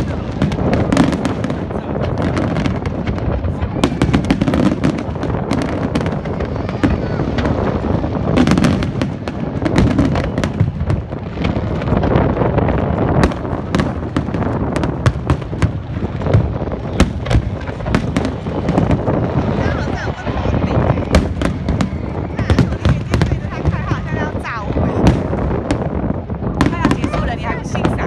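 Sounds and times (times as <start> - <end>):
fireworks cracks and bangs: 0.0 - 28.0.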